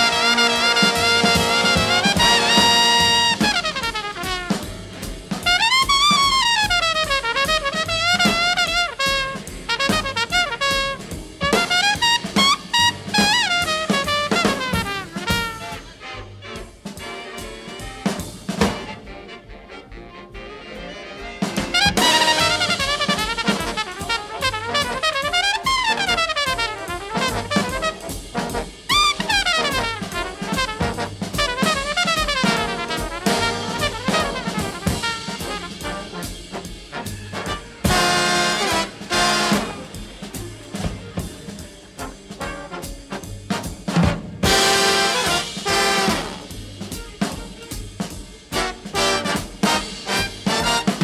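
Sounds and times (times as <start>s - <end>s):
drum kit: 0.0s - 19.4s, 21.2s - 51.0s
brass horns playing jazz melody: 0.0s - 51.0s.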